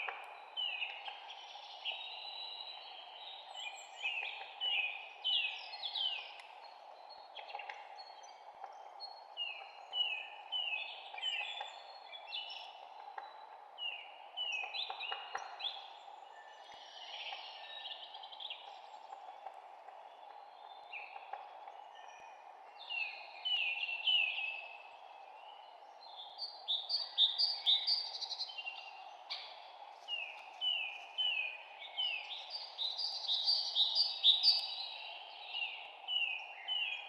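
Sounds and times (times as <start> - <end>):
songbirds chirping: 0.0 - 37.0
steady background hiss: 0.0 - 37.0.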